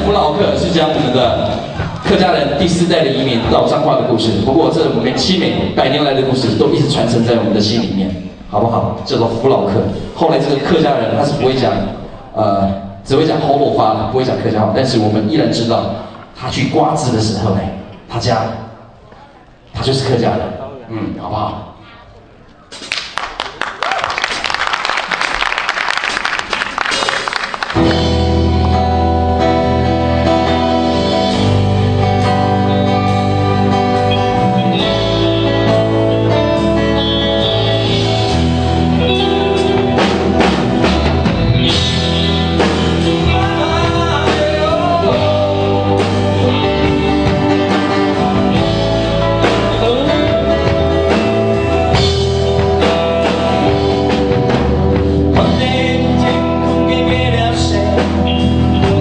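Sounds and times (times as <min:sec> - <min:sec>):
live rock band playing: 0:00.0 - 0:16.3, 0:24.2 - 0:59.0.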